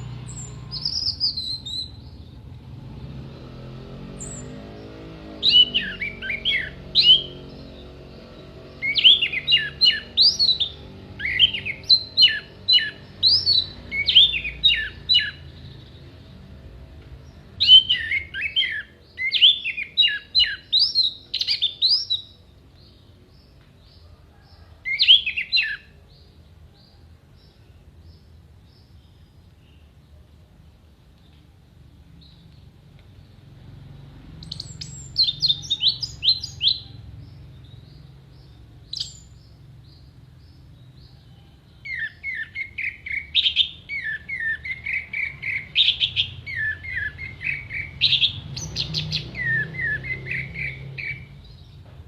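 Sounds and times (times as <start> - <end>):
bird singing whistled notes: 0.0 - 2.4, 4.2 - 16.3, 17.2 - 30.0, 34.4 - 51.8.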